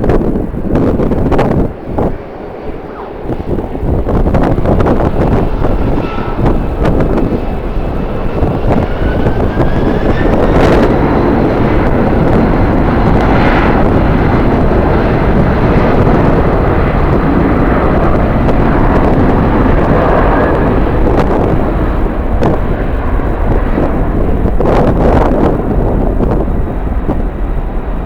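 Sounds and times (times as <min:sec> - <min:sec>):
jet engine noise: 0:00.0 - 0:28.0
rising whine: 0:00.0 - 0:28.0
wind rumble on microphone: 0:00.0 - 0:28.0.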